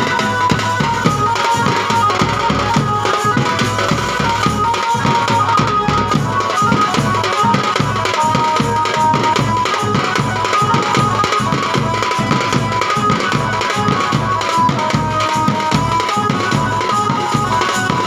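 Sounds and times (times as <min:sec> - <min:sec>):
fast steady drumbeat: 0:00.0 - 0:18.0
melody of long high notes: 0:00.0 - 0:18.0.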